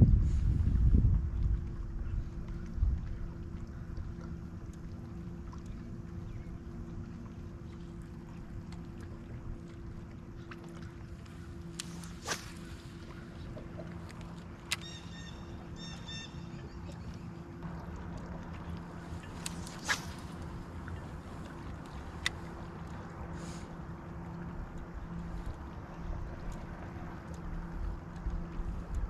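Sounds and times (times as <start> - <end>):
faint hum: 0.0 - 29.0
water and wind noise: 0.0 - 29.0.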